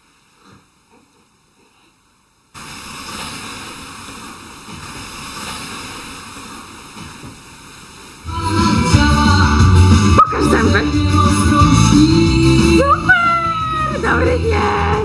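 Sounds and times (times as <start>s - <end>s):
rushing hiss: 2.5s - 15.0s.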